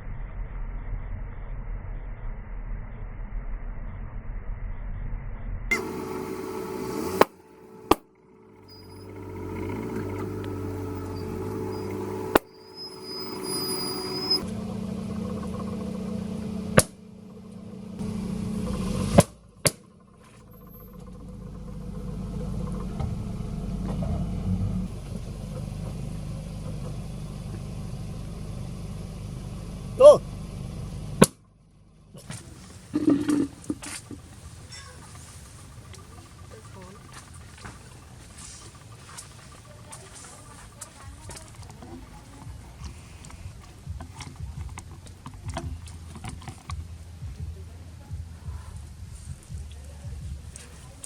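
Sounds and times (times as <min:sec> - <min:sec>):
car engine running slowly: 0:05.7 - 0:51.0.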